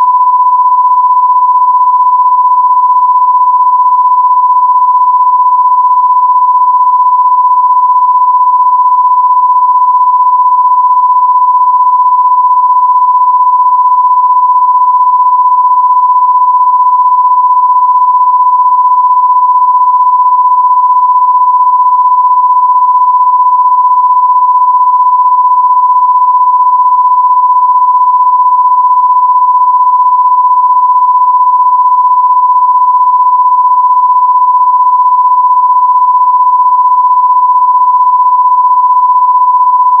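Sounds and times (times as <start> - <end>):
electronic sine tone: 0.0 - 40.0.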